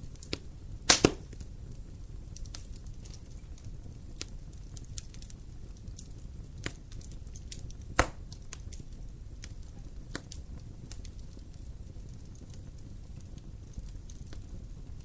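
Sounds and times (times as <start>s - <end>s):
fire crackling in a fireplace: 0.0s - 15.0s
fire pops: 0.0s - 15.0s
low rumble of fire: 0.0s - 15.0s.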